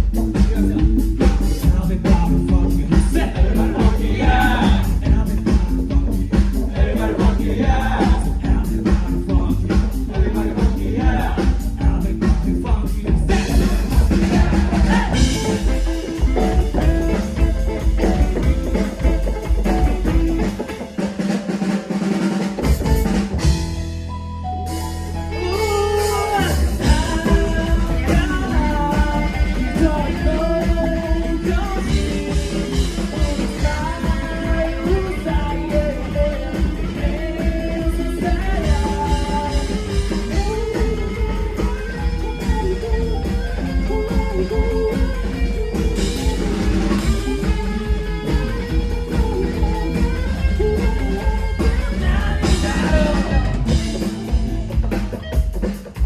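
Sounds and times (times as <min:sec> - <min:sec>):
drum kit: 0:00.0 - 0:56.0
electric guitar: 0:00.0 - 0:56.0
person singing: 0:00.2 - 0:20.7, 0:24.4 - 0:54.6.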